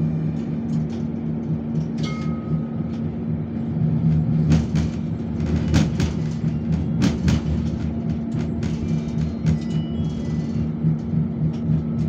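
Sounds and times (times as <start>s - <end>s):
tram hum and rumble: 0.0s - 12.0s.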